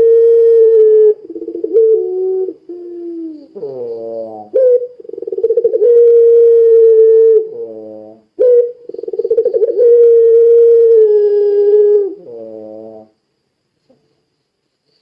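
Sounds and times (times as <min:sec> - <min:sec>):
dove long trilling call: 0:00.0 - 0:13.1
dove low coo: 0:00.0 - 0:13.2.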